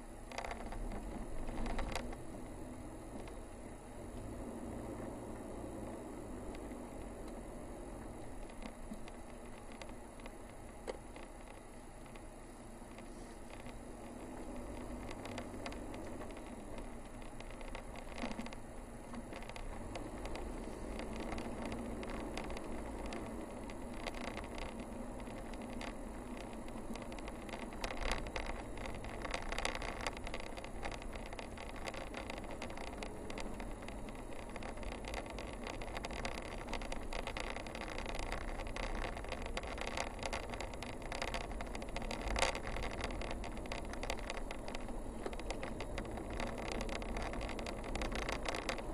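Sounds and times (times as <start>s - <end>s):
engine and tyre rumble: 0.0s - 48.9s.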